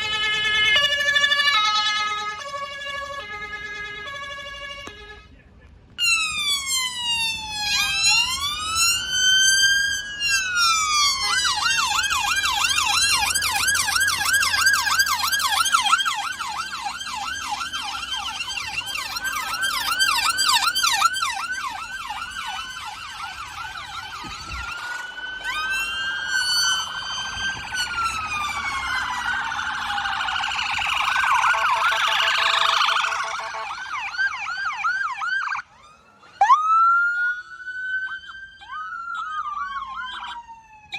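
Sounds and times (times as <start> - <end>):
electronic siren wail and yelp: 0.0 - 5.4, 6.0 - 40.9.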